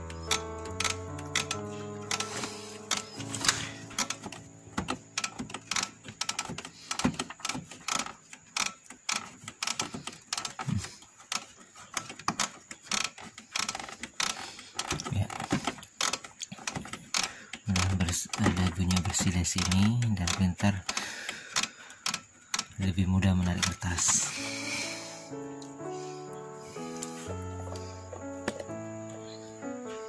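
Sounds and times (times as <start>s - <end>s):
plastic printer parts clicking: 0.0s - 24.4s.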